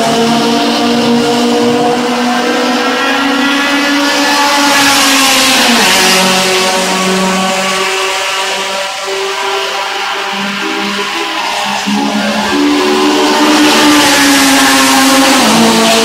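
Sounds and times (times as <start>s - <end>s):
race car passing by: 0.0s - 16.0s.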